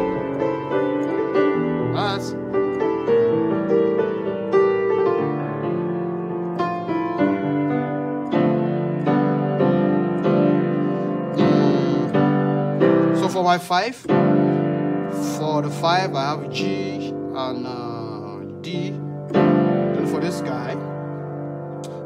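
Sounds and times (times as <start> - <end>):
piano block chords: 0.0 - 22.0.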